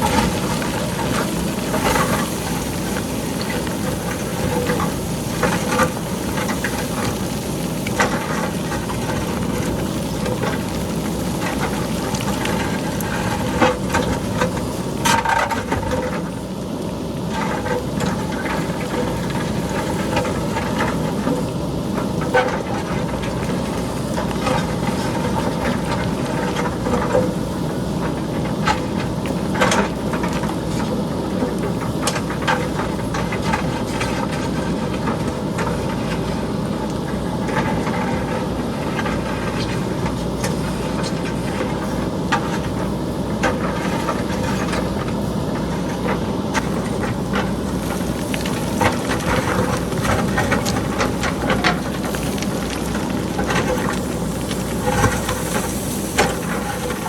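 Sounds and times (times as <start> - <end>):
diesel engine running: 0.0 - 57.0
rocks clattering down a slope: 0.0 - 57.0.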